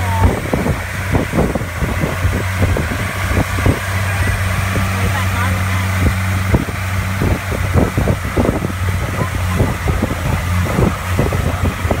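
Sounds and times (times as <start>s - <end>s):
boat engine droning: 0.0s - 12.0s
wind and water rushing: 0.0s - 12.0s.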